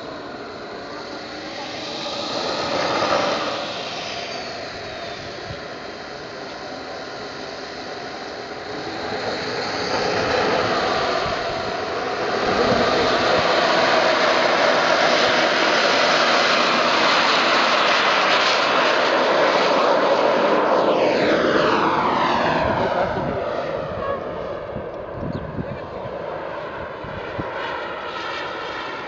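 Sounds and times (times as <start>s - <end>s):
model jet turbine roar: 0.0s - 29.0s.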